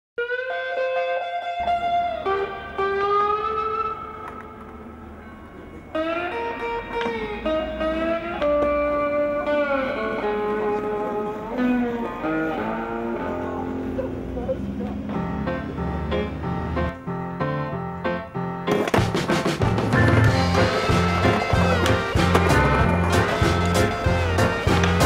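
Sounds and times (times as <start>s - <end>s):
guitar music with bending notes: 0.2s - 25.0s.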